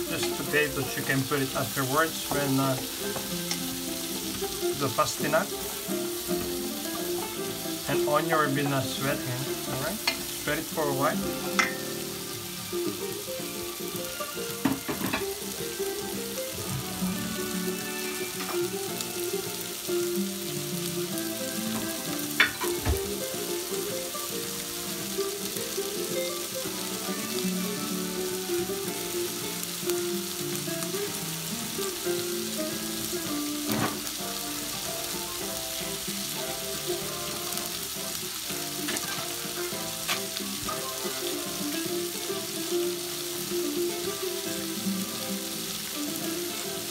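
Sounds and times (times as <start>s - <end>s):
vegetables sizzling in butter: 0.0s - 46.9s.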